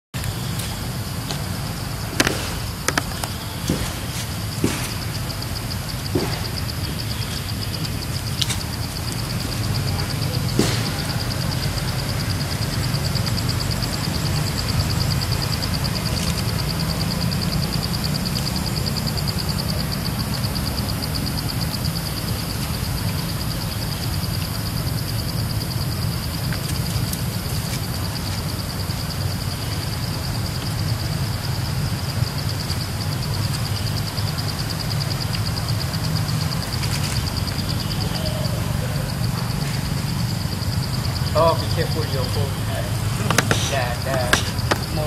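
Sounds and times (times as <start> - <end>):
high-pitched insect drone: 0.2 - 45.0.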